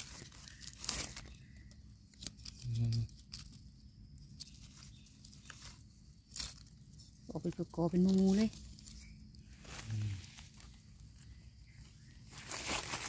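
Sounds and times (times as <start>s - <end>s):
dry leaves and twigs crackling: 0.0s - 13.0s
faint rustle: 0.0s - 13.0s.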